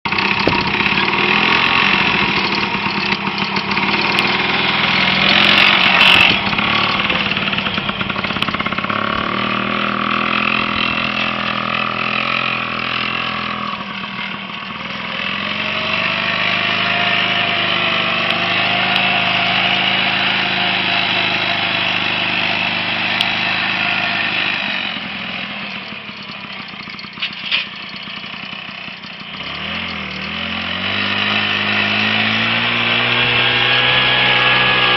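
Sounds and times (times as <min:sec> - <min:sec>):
small two-stroke engine running: 0:00.1 - 0:34.9.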